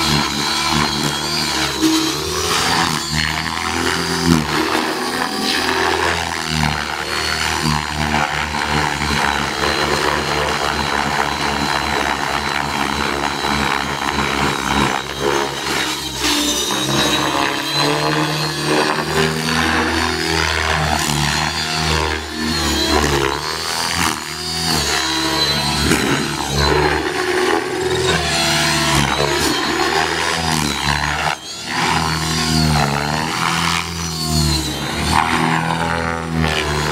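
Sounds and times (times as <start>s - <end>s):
rc helicopter rotor whine: 0.0s - 36.9s.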